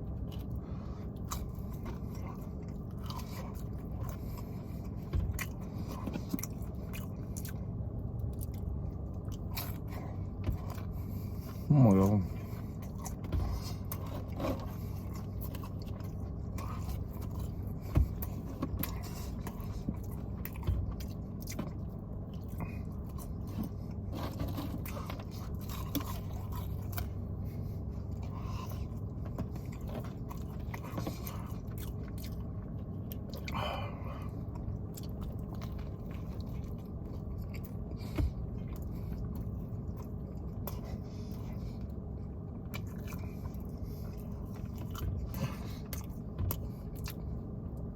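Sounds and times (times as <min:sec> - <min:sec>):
person chewing food: 0:00.0 - 0:47.9
steady low hum: 0:00.0 - 0:47.9.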